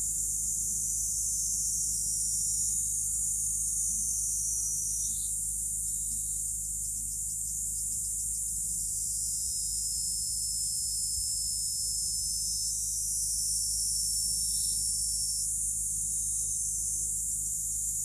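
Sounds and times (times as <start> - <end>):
insects droning: 0.0 - 18.0
low steady rumble: 0.0 - 18.0.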